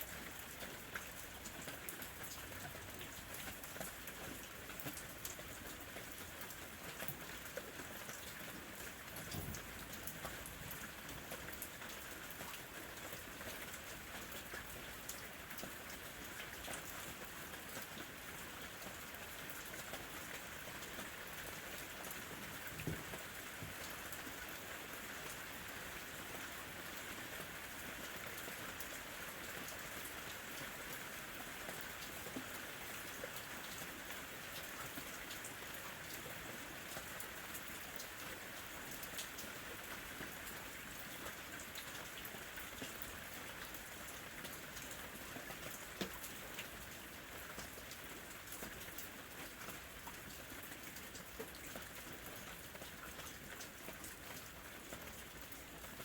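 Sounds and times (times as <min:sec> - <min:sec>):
rain drops ticking on surface: 0:00.0 - 0:56.0.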